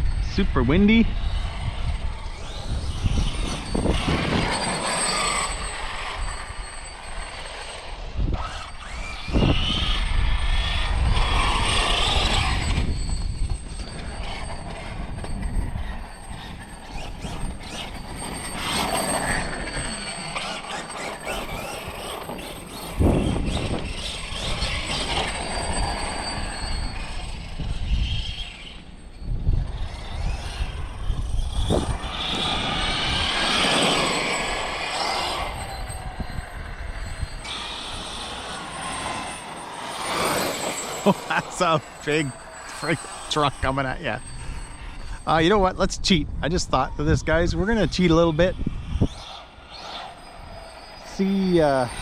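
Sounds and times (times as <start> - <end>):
rc truck motor whining: 0.0 - 52.0
wind buffeting microphone: 0.0 - 52.0.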